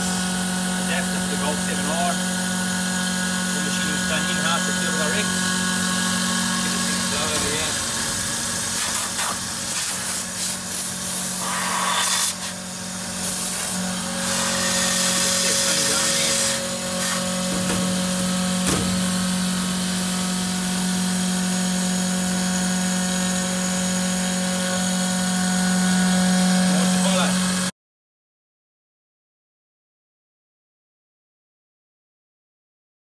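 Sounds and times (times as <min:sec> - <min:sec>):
rough metal cutting noise: 0:00.0 - 0:27.7.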